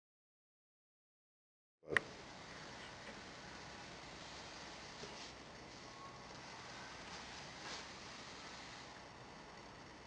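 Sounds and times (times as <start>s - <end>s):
faint steady hiss: 1.9s - 10.0s.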